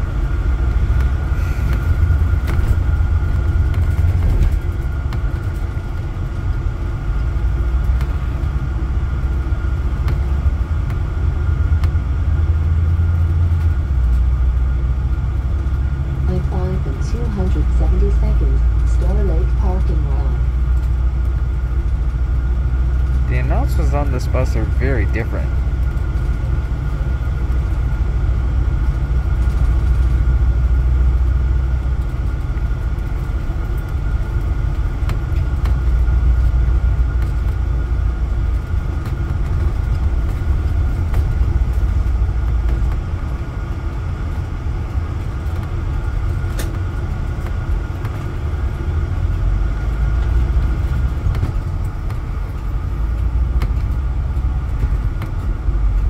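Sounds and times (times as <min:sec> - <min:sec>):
low rumble of engine and road: 0:00.0 - 0:56.0
steady whine: 0:00.0 - 0:56.0.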